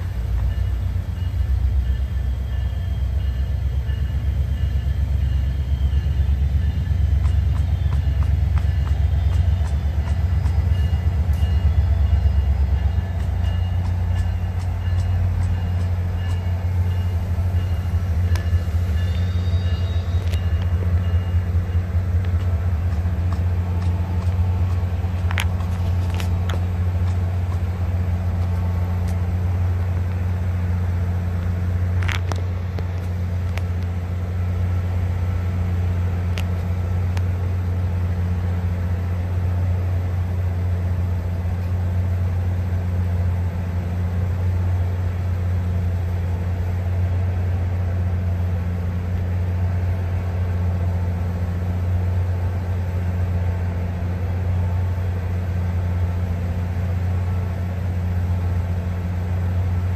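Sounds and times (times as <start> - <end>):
low train drone: 0.0 - 59.9.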